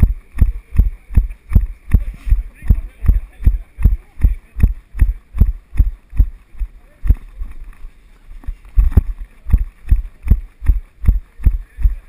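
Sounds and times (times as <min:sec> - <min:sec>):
running footfalls thumping: 0:00.0 - 0:07.7, 0:08.4 - 0:12.0.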